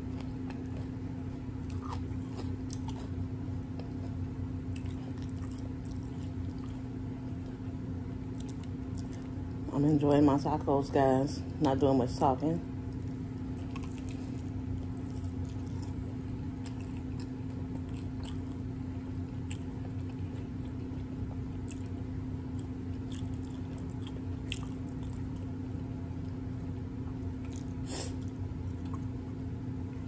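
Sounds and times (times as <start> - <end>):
crunchy taco shell chewing: 0.0 - 9.5, 12.9 - 25.6, 27.1 - 29.2
steady low hum: 0.0 - 30.0.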